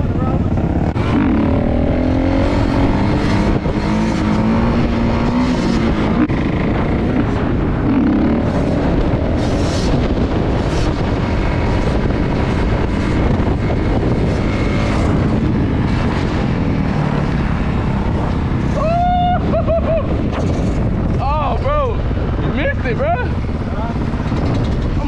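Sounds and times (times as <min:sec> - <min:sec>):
dirt bike engine: 0:00.0 - 0:25.0
wind noise on microphone: 0:00.0 - 0:25.0.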